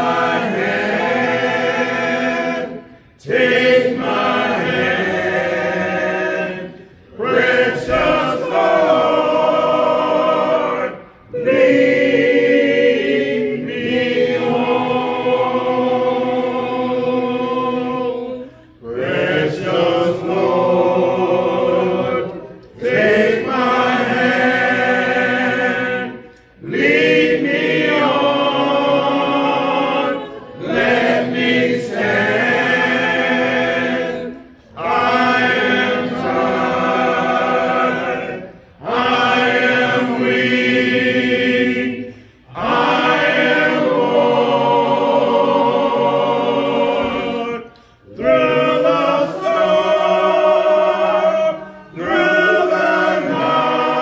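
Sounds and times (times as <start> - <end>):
congregation singing a cappella: 0.0 - 54.0.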